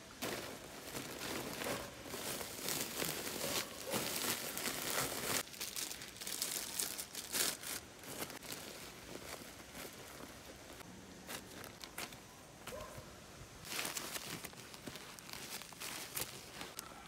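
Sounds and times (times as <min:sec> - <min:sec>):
plastic bags rustling: 0:00.0 - 0:12.9, 0:13.6 - 0:17.0.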